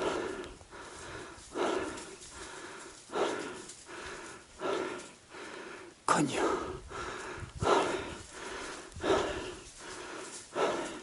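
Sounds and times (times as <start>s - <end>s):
heavy breathing: 0.0s - 11.0s.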